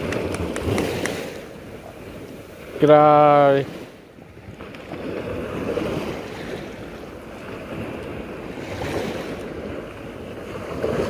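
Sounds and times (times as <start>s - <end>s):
waves washing: 0.0s - 11.0s
wind: 0.0s - 11.0s.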